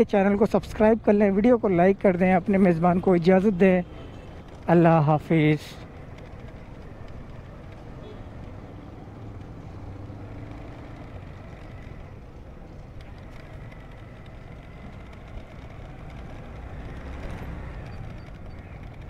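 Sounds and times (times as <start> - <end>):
vehicle engine and road noise: 0.0 - 19.0
faint clicks: 3.5 - 19.0.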